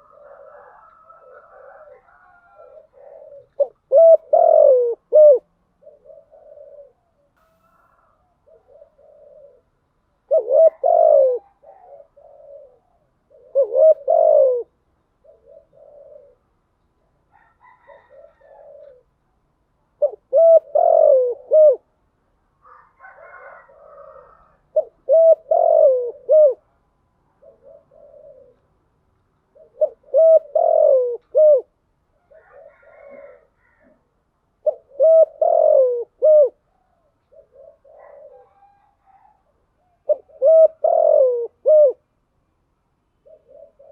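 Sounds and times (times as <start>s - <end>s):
dove cooing: 0.0s - 19.3s, 19.9s - 22.0s, 22.6s - 42.1s, 43.1s - 43.9s.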